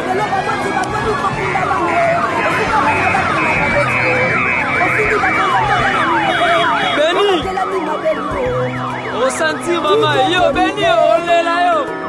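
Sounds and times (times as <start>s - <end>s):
people's voices: 0.0s - 12.0s
vehicle sirens wailing and yelping: 0.0s - 12.0s.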